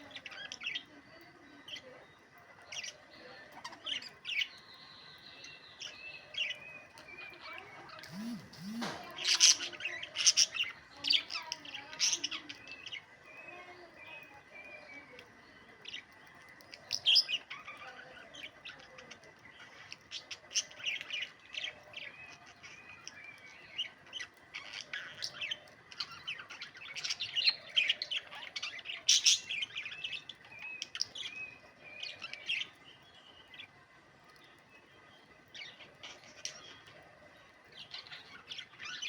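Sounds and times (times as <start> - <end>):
parrots chirping and chattering: 0.0 - 39.0.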